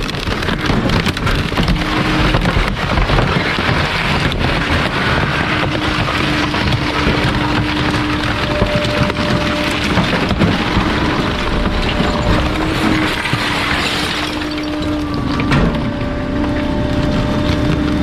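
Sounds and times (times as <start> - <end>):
hydraulics humming: 0.0 - 18.0
wood cracking and splintering: 0.0 - 18.0.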